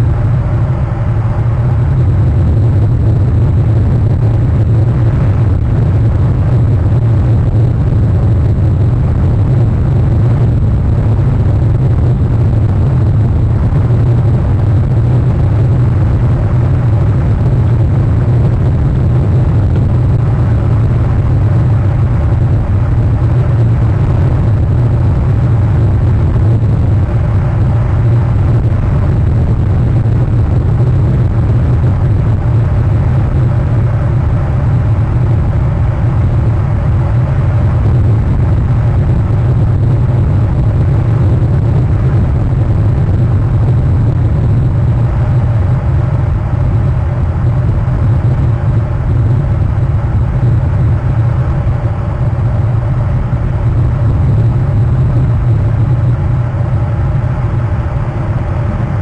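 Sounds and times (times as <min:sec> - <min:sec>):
loud low rumble: 0:00.0 - 0:59.0.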